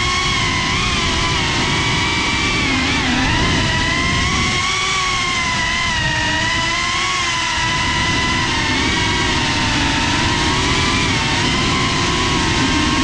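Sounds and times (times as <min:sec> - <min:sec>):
drone motors whining: 0:00.0 - 0:13.0
wind rush: 0:00.0 - 0:13.0.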